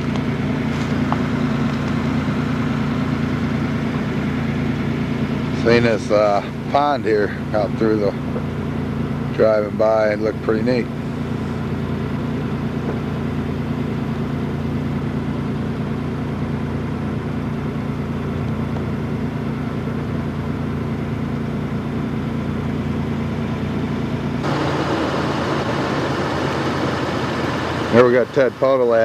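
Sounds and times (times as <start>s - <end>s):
road noise: 0.0s - 29.0s
truck engine driving: 0.0s - 29.0s.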